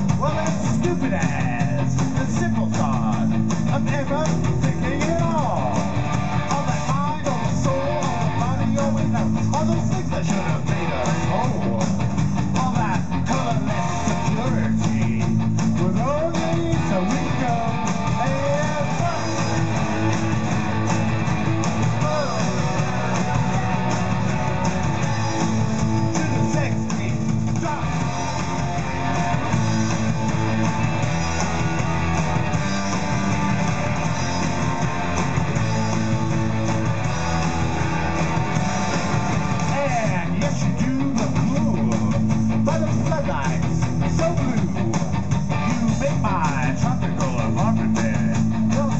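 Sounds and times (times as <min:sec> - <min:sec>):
electric guitars: 0:00.0 - 0:48.9
rock band playing: 0:00.0 - 0:48.9.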